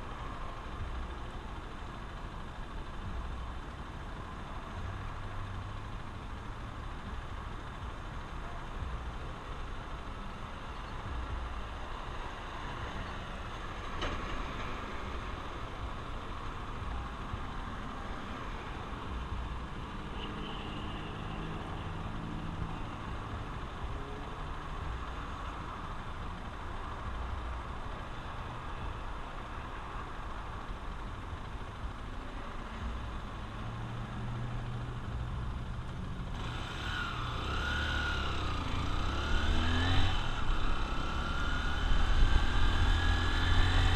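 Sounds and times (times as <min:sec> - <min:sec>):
road noise: 0:00.0 - 0:43.9.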